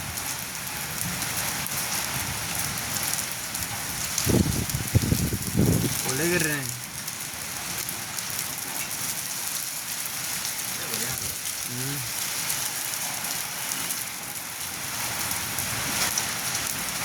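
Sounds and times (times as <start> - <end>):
hail pattering: 0.0 - 17.0.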